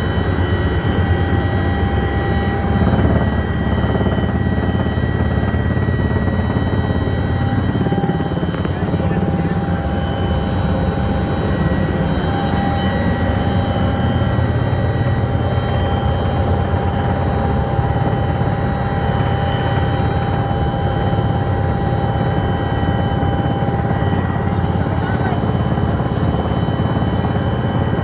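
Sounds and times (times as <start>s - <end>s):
helicopter rotor and engine drone: 0.0s - 28.0s
turbine whine: 0.0s - 28.0s.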